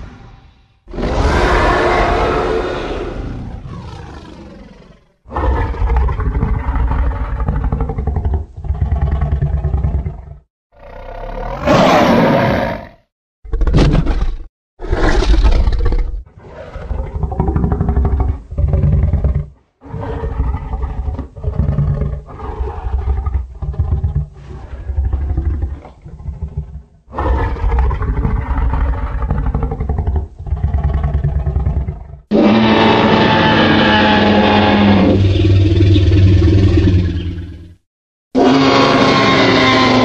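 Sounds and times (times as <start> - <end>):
dinosaur roars and growls: 0.8 - 37.8, 38.4 - 40.0.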